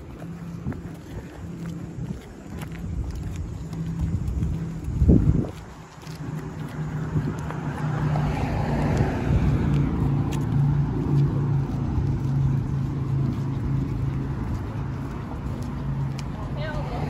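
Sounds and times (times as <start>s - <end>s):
car passing: 0.0s - 17.0s
low engine hum: 0.0s - 17.0s.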